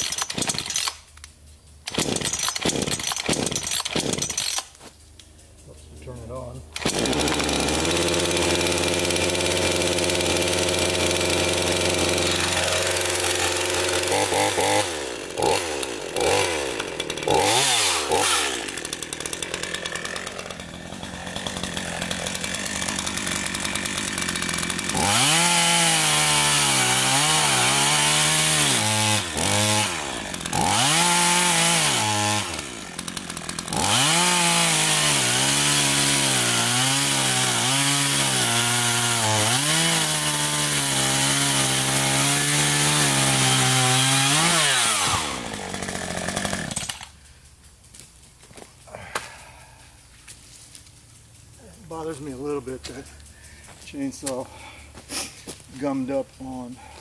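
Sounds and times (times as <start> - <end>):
chainsaw revving and cutting wood: 0.0 - 1.2, 1.8 - 5.0, 6.1 - 47.6, 51.6 - 57.0.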